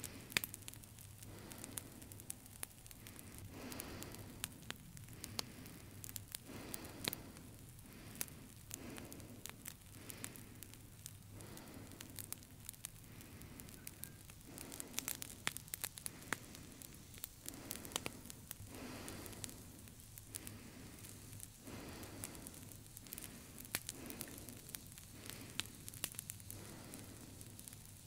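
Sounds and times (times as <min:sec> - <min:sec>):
sharp crackling clicks: 0:00.0 - 0:27.9
slow breathing: 0:00.0 - 0:28.0.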